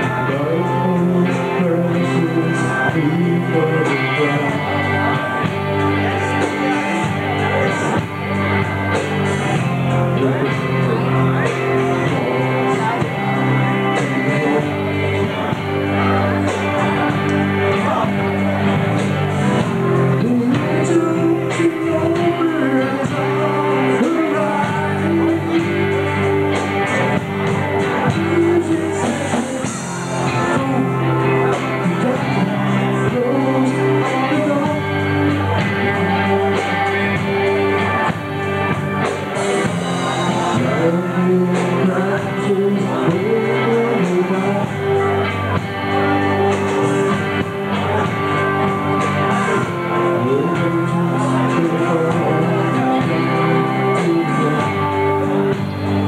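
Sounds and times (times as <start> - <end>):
man singing into microphone: 0.0 - 38.4, 39.6 - 56.0
bass guitar: 0.0 - 56.0
drum kit with cymbals: 0.0 - 56.0
electric guitar: 0.0 - 56.0.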